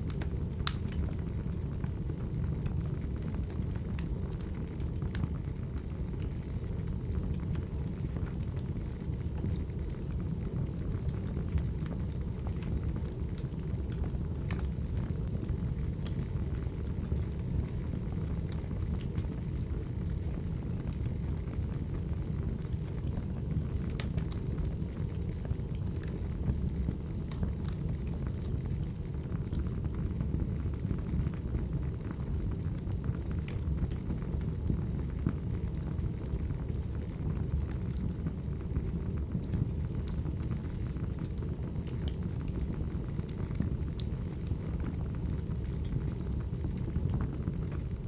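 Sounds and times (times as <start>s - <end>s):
firewood burning with crackles: 0.0s - 48.0s.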